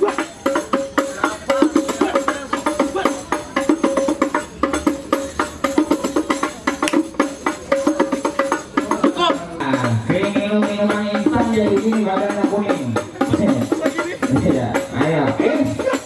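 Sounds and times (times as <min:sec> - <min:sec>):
knocking percussion strokes: 0:00.0 - 0:16.0
tambourine-like jingles: 0:00.0 - 0:16.0.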